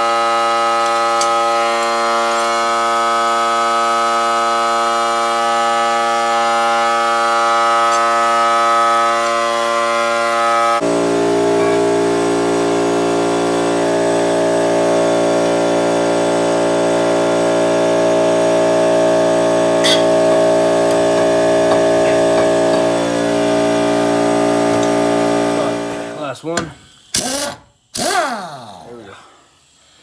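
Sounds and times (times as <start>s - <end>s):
power tool motor whining: 0.0s - 28.8s.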